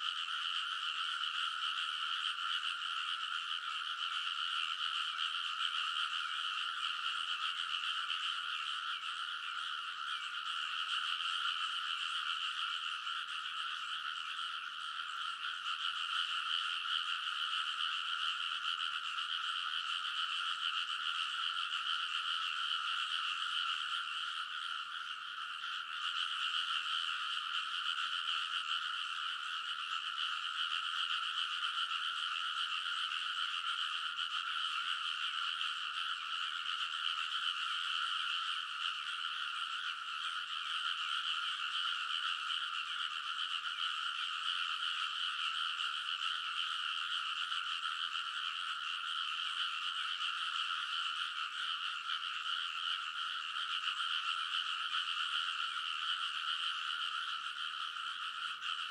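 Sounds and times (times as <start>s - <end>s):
frogs croaking in chorus: 0.0s - 58.9s.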